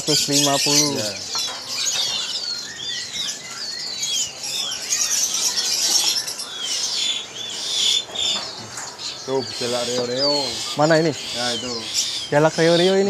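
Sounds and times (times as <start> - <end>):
songbirds chirping and whistling: 0.0 - 13.0.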